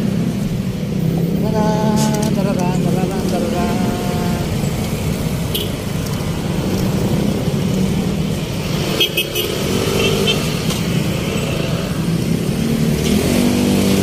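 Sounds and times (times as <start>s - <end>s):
car and motorcycle engines passing: 0.0s - 14.0s.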